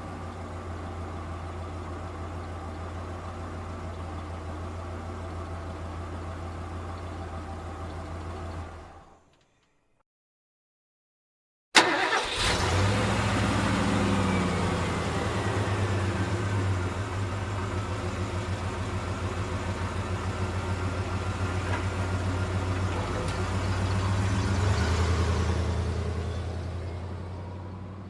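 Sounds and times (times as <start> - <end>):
truck engine idling: 0.0 - 9.2, 11.8 - 28.0.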